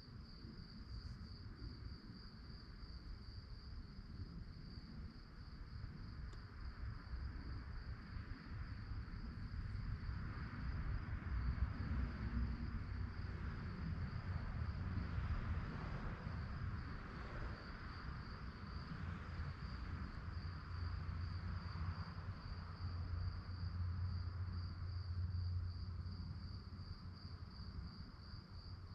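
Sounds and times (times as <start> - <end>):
crickets chirping: 0.0 - 28.9.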